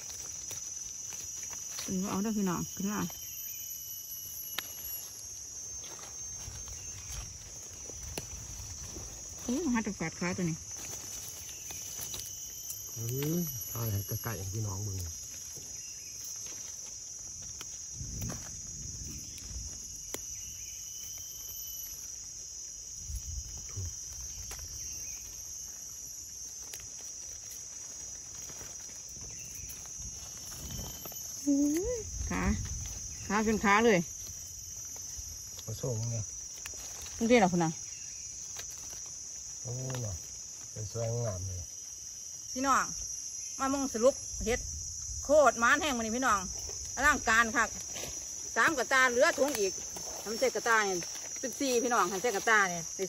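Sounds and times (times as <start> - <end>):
insects chirring: 0.0 - 53.0
rustling in leaf litter: 0.0 - 53.0.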